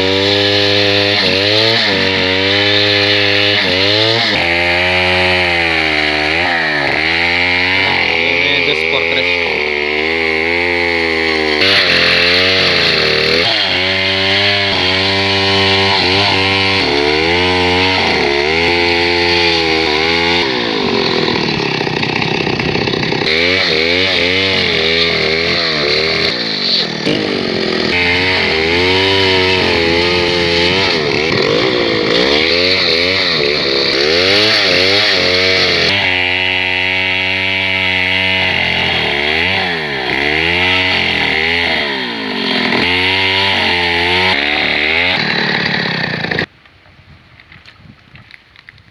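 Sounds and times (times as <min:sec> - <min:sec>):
chainsaw ripping a log: 0:00.0 - 0:46.5.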